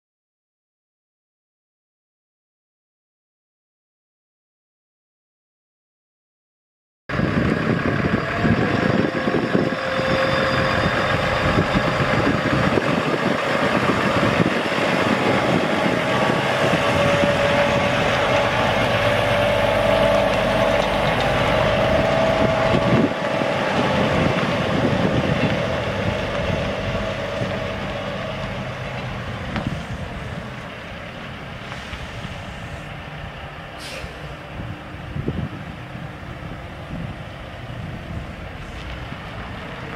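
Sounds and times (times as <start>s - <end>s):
diesel truck engine rumbling: 7.1s - 39.9s.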